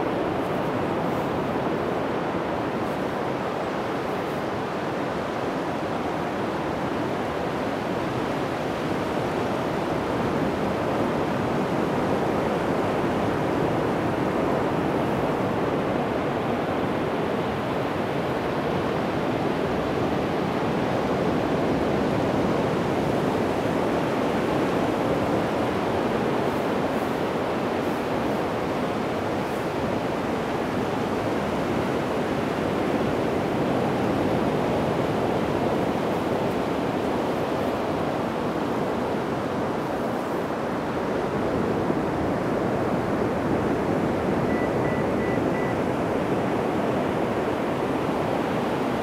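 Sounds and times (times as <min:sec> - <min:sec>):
surf washing on sandy beach: 0:00.0 - 0:49.0.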